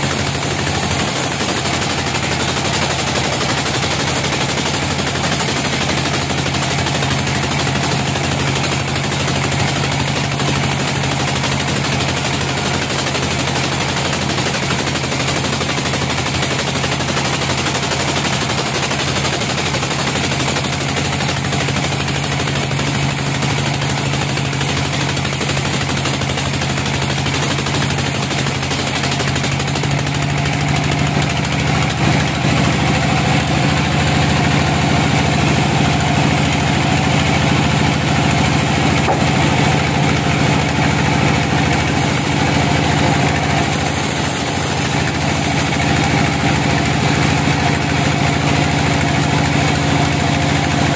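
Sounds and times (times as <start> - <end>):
band sawmill cutting log: 0.0 - 50.9.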